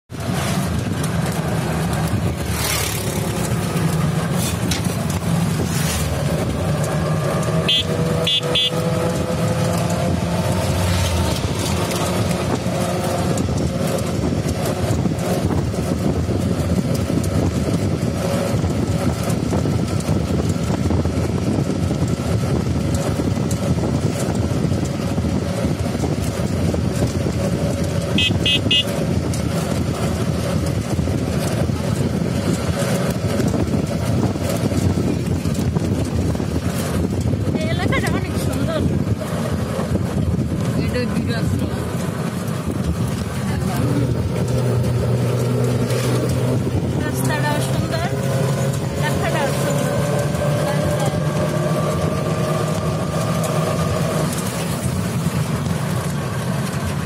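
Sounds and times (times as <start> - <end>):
road and wind noise: 0.0 - 57.0
vehicle motor running: 0.1 - 57.0.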